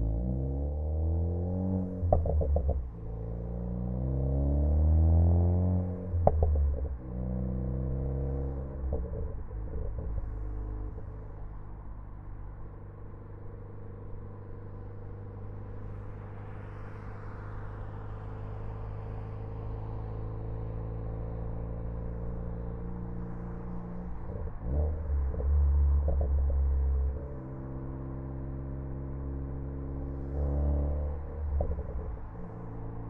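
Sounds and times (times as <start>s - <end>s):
car engine and exhaust: 0.0s - 33.0s.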